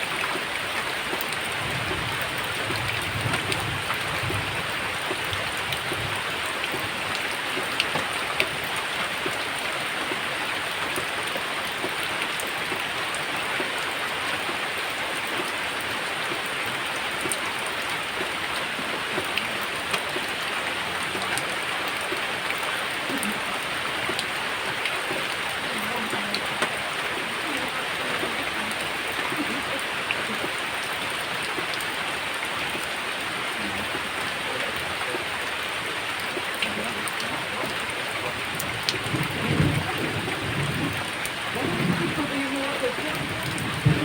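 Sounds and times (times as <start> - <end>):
heavy rain falling: 0.0 - 44.0
raindrops ticking: 0.0 - 44.0.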